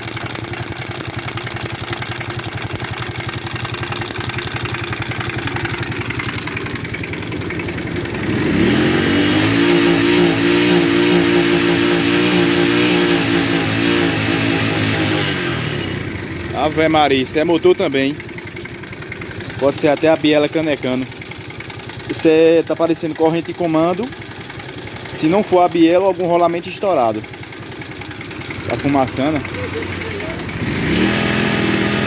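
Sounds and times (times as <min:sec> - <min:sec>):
motorcycle engine with knocking rattle: 0:00.0 - 0:32.0.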